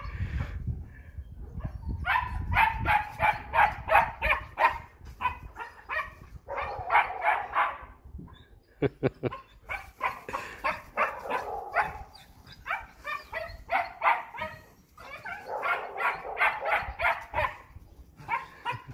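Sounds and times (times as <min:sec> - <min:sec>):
puppies yipping and barking: 0:01.6 - 0:18.9.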